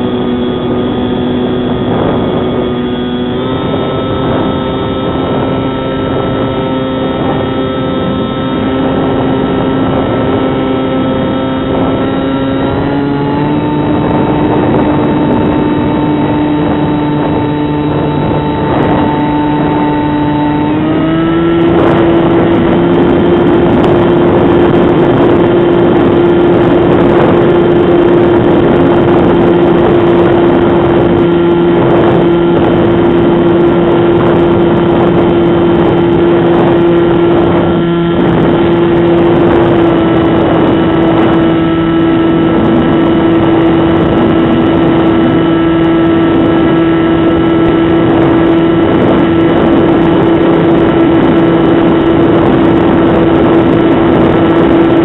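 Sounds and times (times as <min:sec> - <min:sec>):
rush of air: 0:00.0 - 0:55.0.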